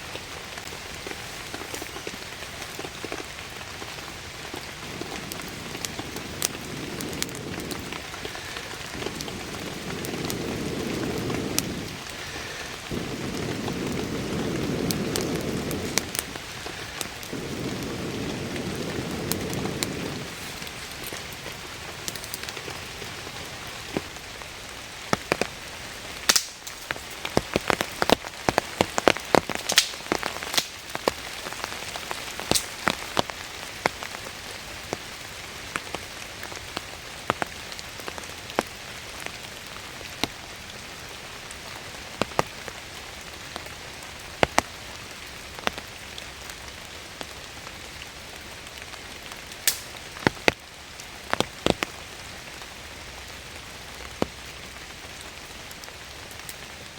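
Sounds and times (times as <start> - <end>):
rain with close drop impacts: 0.0 - 56.9.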